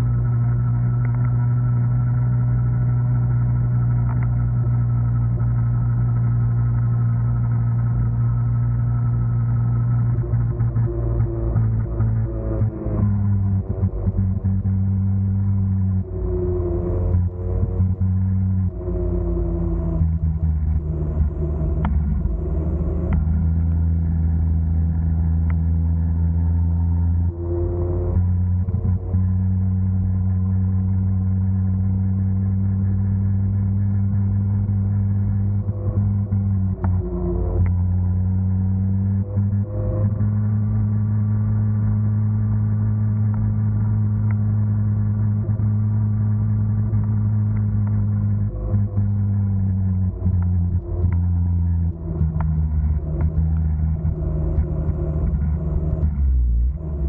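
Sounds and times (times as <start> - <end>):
small two-stroke engine drone: 0.0 - 57.0.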